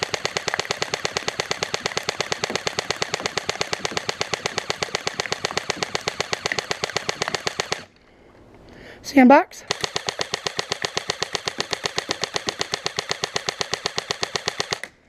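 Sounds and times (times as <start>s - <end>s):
airsoft rifle firing full auto: 0.0s - 7.9s, 9.6s - 15.0s.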